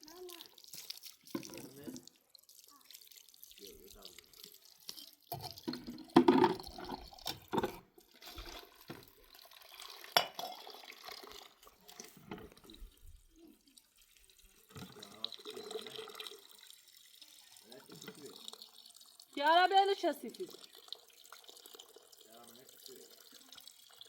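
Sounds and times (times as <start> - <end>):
water splashing and dripping: 0.0 - 24.0.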